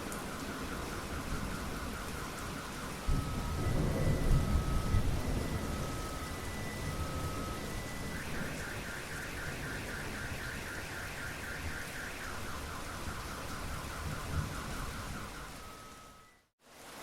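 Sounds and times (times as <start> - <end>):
car alarm tones: 0.0 - 16.5
steady rain: 0.0 - 17.0.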